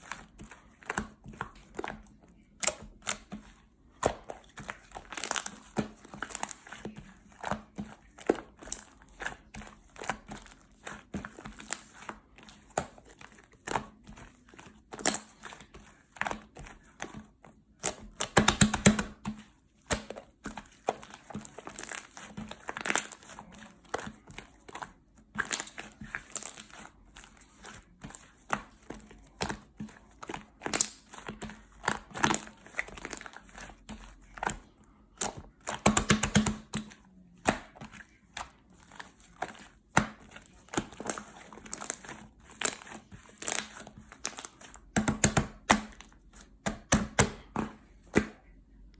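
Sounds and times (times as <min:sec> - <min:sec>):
slime squished by hand: 0:00.0 - 0:48.4.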